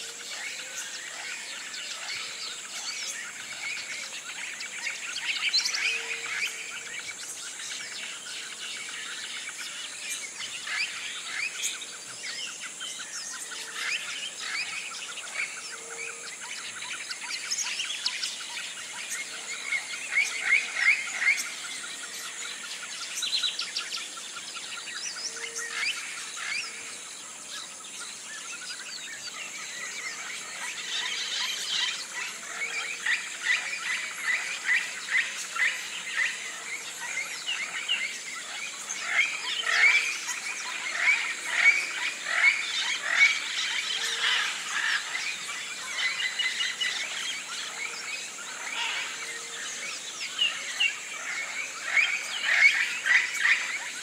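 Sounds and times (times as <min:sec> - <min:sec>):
birds chirping: 0:00.2 - 0:54.0.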